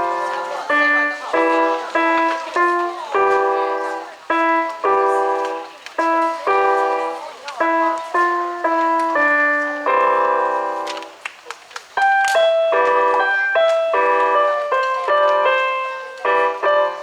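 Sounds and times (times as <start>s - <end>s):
simple keyboard melody: 0.0s - 11.2s, 12.0s - 17.0s.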